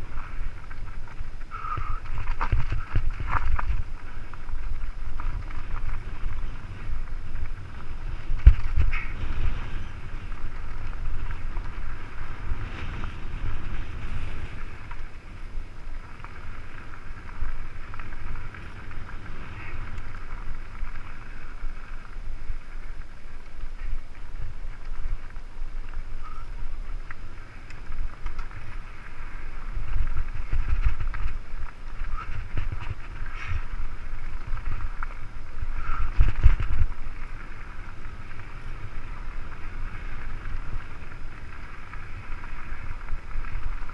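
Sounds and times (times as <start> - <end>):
bike rattling over stones: 0.0 - 43.9
wind buffeting microphone: 0.0 - 43.9.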